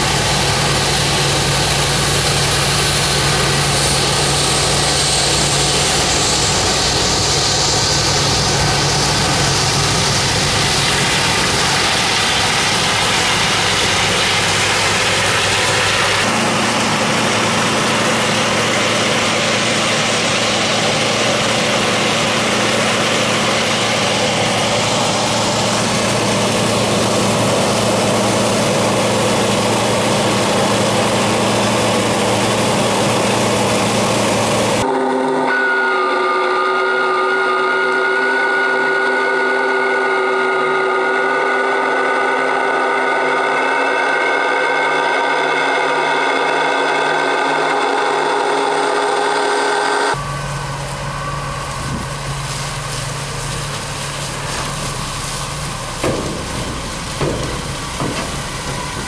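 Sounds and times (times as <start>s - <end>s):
corn pouring from auger: 0.0s - 59.0s
diesel engines running: 0.0s - 59.0s.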